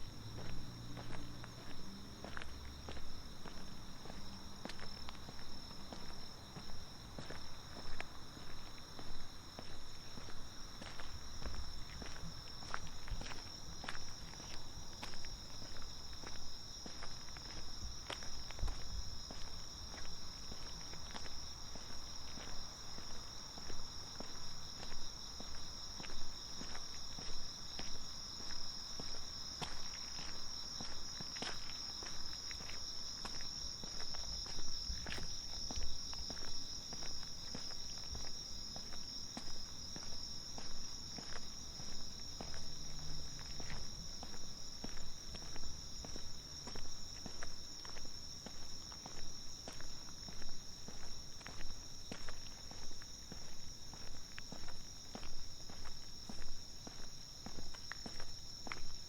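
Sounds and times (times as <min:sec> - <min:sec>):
footsteps walking: 0:00.0 - 0:59.0
night insects chirring: 0:00.0 - 0:59.0.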